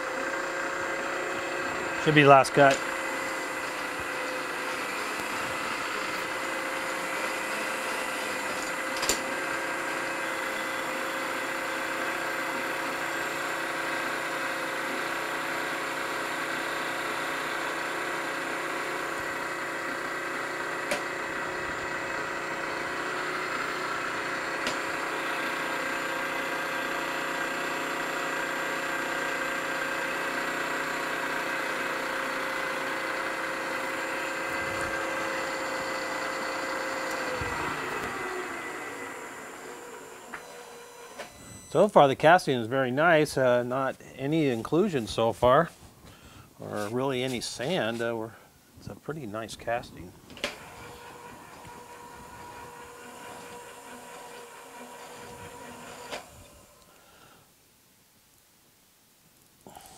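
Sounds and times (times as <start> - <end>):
milling machine spindle running: 0.0 - 42.1, 50.3 - 56.9.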